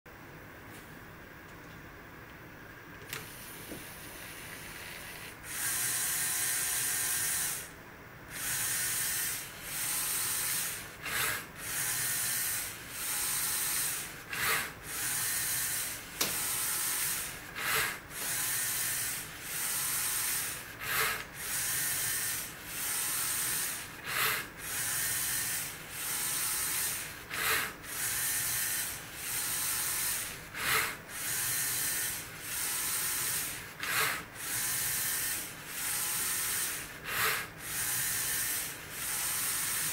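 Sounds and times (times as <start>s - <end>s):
harsh whirring burst: 3.1s - 39.9s
toy motors and gears whirring: 4.2s - 7.7s, 8.3s - 39.9s.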